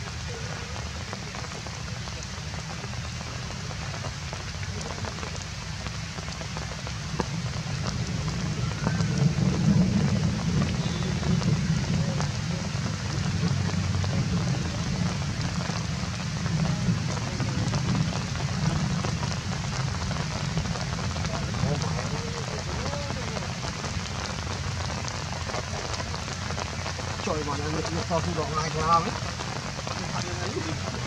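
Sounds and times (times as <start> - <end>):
rain pattering on leaves: 0.0 - 31.0.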